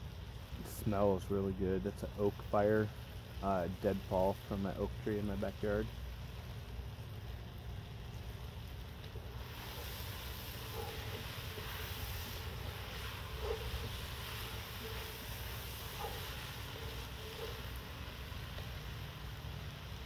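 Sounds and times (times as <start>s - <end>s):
vegetables sizzling in a pot: 0.0s - 20.0s.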